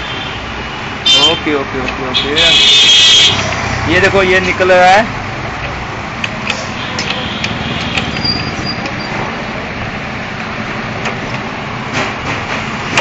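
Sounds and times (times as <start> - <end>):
traffic-like rumble: 0.0 - 13.0.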